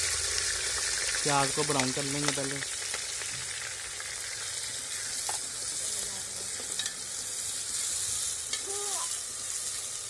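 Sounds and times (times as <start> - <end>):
onions sizzling in pot: 0.0 - 10.0.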